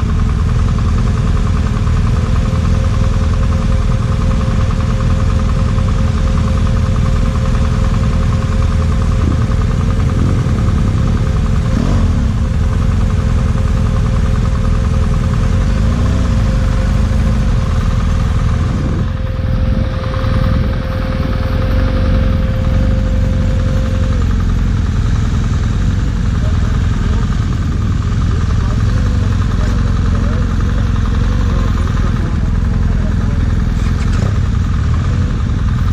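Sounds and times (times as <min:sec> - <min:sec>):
motorcycle engine running: 0:00.0 - 0:35.9
thin steady whine: 0:00.0 - 0:35.9.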